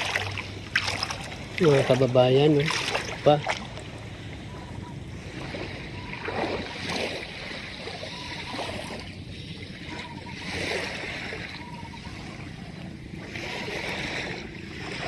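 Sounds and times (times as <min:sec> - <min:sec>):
small waves washing on shore: 0:00.0 - 0:15.0.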